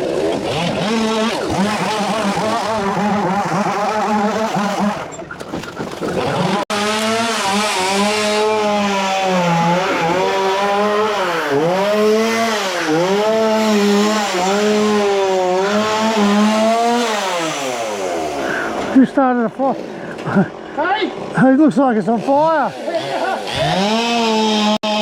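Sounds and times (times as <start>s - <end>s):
chainsaw cutting wood: 0.0s - 19.0s, 22.0s - 25.0s.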